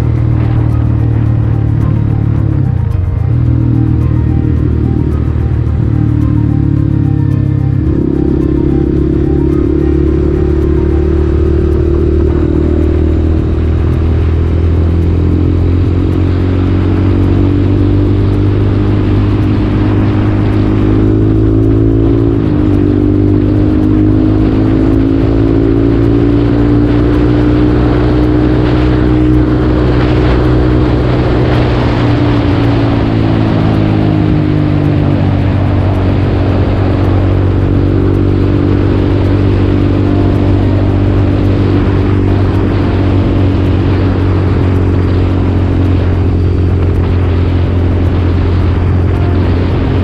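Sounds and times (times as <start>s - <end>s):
motorcycle engine running: 0.0s - 50.0s
wind rush: 0.0s - 50.0s.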